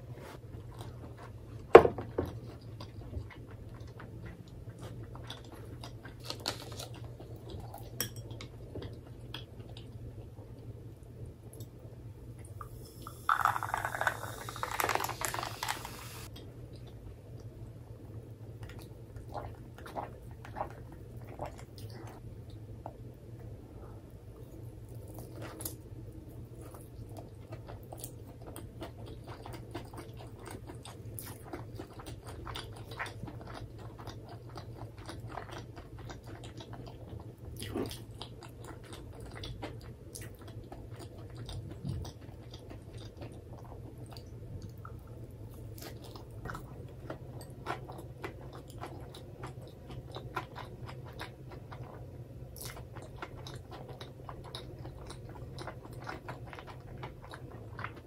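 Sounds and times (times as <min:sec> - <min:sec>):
person chewing crunchy food: 0:00.6 - 0:10.3, 0:12.7 - 0:17.0, 0:18.6 - 0:22.2, 0:24.4 - 0:58.0.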